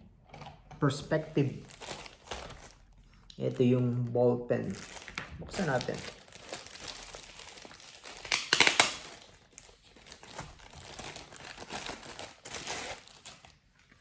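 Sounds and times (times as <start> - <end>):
plastic packaging crinkling: 1.1 - 14.0.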